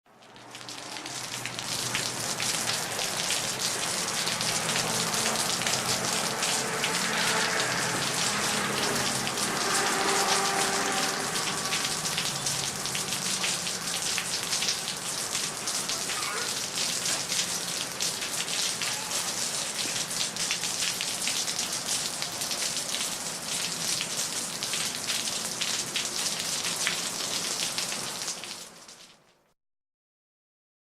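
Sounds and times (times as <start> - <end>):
rain on pavement: 0.0 - 29.5.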